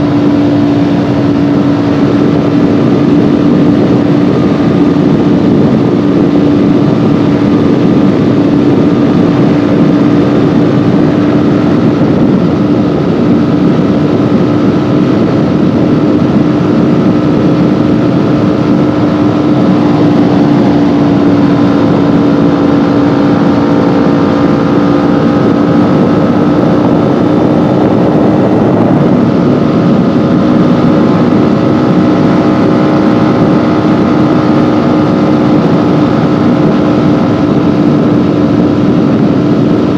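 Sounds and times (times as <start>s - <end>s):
dense rush of noise: 0.0s - 39.9s
motorcycle engine running steadily: 0.0s - 39.9s.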